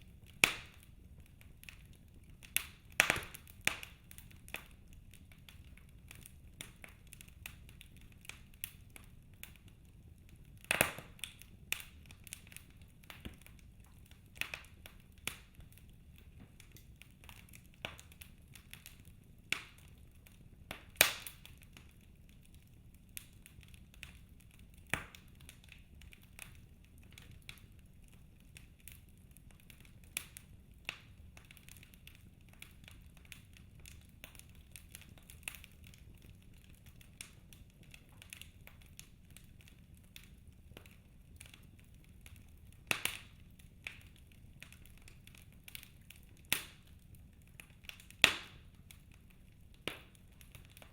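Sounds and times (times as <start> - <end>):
faint fire hiss: 0.0 - 50.9
wood fire pops and snaps: 0.0 - 50.9.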